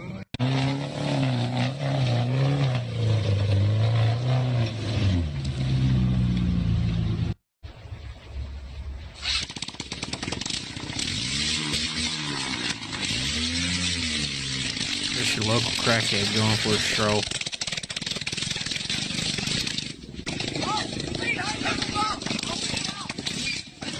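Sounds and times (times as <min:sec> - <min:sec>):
truck engine revving: 0:00.0 - 0:07.4, 0:10.0 - 0:23.9.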